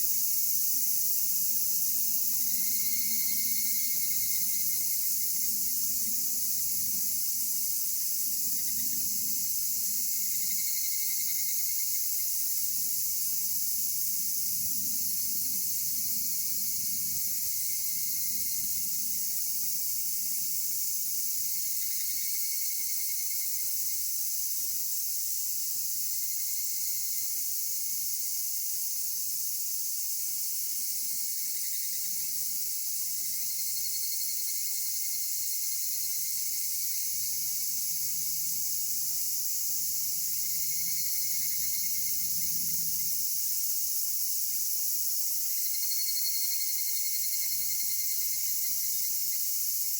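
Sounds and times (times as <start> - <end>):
cicada calls: 0.0 - 49.9
insect chorus drone: 0.0 - 49.9.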